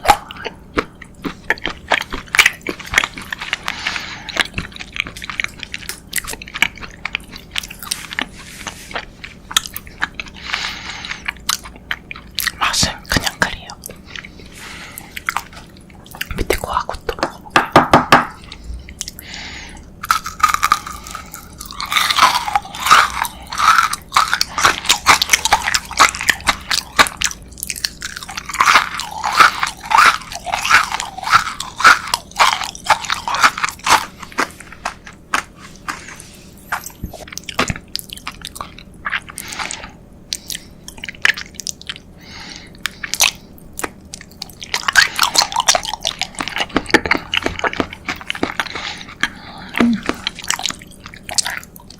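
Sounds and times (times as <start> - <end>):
chewing crunchy sweet: 0.0 - 17.6, 18.3 - 51.9.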